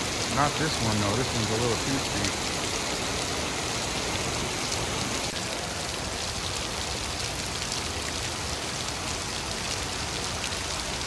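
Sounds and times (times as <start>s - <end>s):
rain falling steadily: 0.0s - 11.0s.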